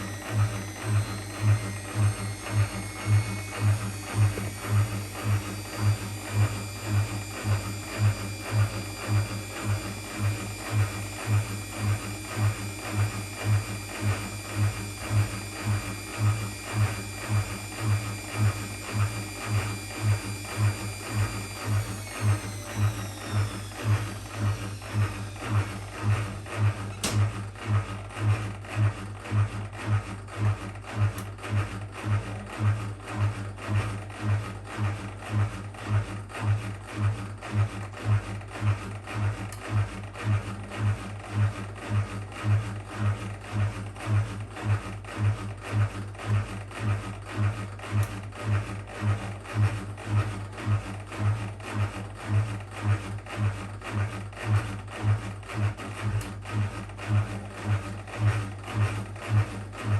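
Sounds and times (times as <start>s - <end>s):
washing machine humming: 0.0s - 59.9s.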